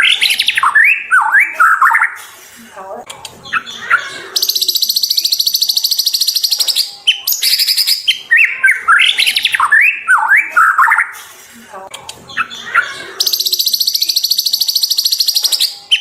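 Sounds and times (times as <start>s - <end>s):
songbird trilling and whistling: 0.0s - 2.2s, 3.5s - 11.1s, 12.4s - 16.0s.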